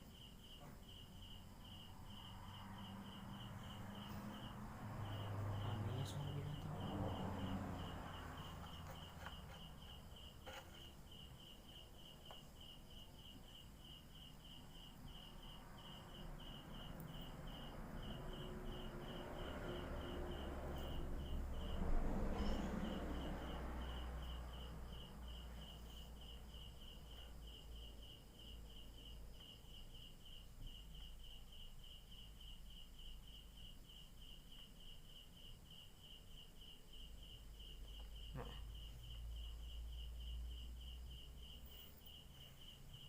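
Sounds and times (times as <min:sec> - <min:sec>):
insect chirping: 0:00.0 - 0:43.0.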